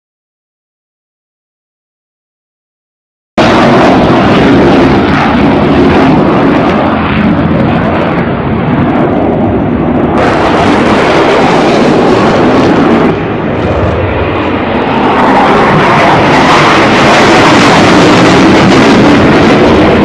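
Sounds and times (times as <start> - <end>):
jet aircraft engine: 3.4 - 20.0.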